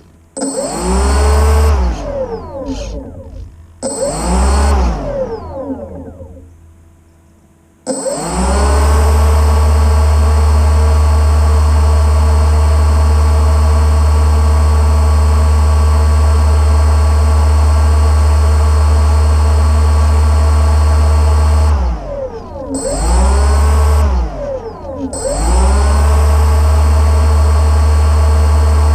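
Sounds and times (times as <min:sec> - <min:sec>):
boat engine running: 0:00.0 - 0:07.4, 0:08.0 - 0:28.9.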